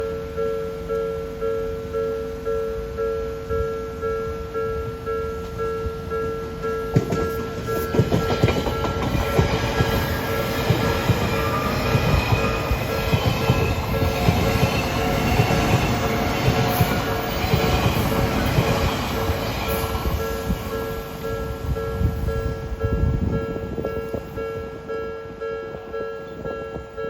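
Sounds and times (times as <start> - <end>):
crossing warning alarm: 0.1 - 27.0
train wheels rumbling on rail: 3.5 - 27.0.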